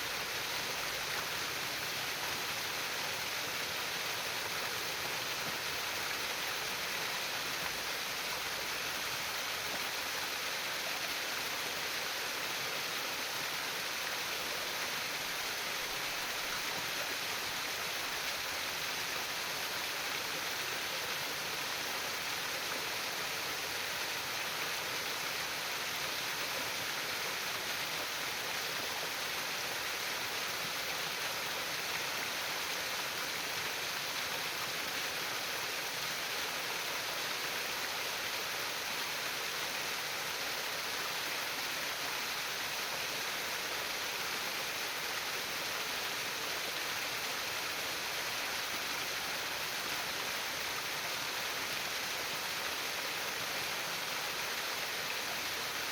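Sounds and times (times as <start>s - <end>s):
stream babbling over stones: 0.0s - 55.9s.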